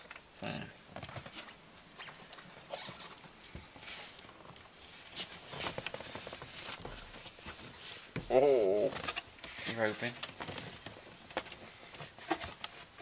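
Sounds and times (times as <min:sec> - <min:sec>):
hands rustling on plastic trim: 0:01.0 - 0:13.0.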